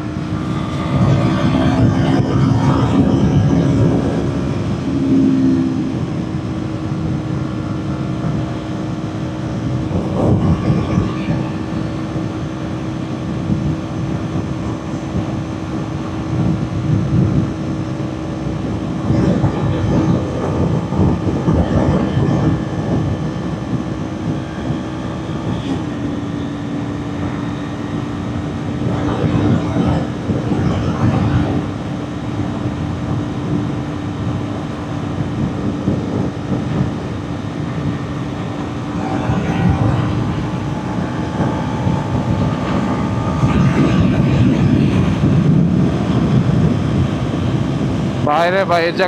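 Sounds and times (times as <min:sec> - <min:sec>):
buffeting wind noise: 0:00.0 - 0:49.0.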